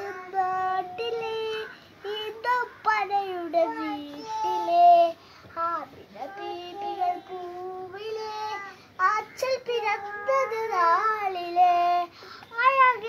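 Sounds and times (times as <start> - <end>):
boy singing solo: 0.0 - 13.0.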